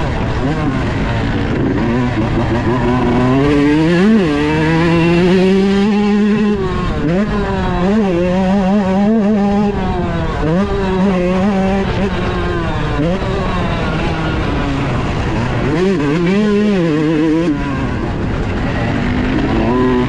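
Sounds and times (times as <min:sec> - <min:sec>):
dirt bike engine revving high: 0:00.0 - 0:20.0.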